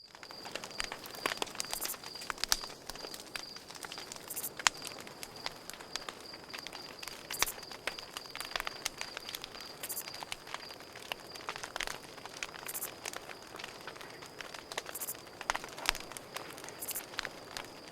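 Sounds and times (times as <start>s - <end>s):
campfire crackling: 0.0s - 17.9s
cricket trilling: 0.0s - 17.9s.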